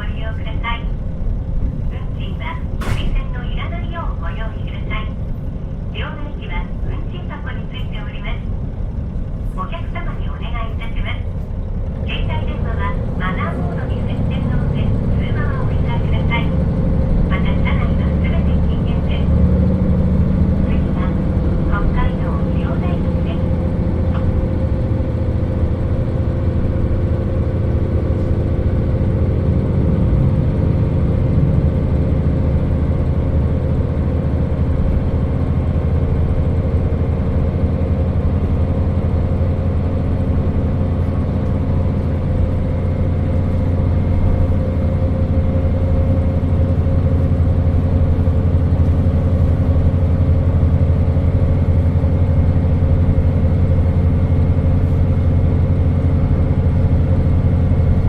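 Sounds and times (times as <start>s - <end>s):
railcar diesel engine running: 0.0s - 58.0s.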